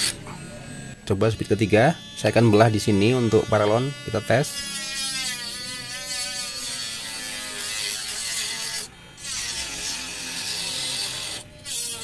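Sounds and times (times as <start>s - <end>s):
mini grinder cutting plastic pipe: 0.0s - 0.5s, 1.3s - 12.0s.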